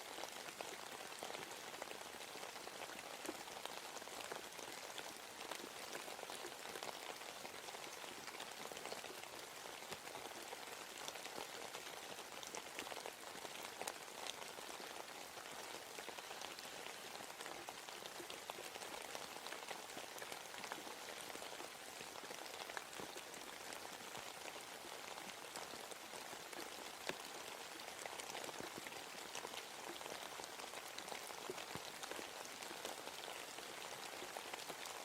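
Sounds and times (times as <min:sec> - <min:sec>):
hiss of rainfall: 0:00.0 - 0:35.0
raindrops pattering on leaves: 0:00.0 - 0:35.0.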